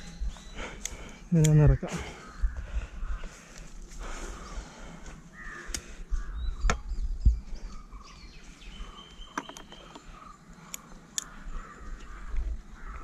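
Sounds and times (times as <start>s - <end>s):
bird chirps: 0.0s - 3.3s, 4.2s - 13.0s.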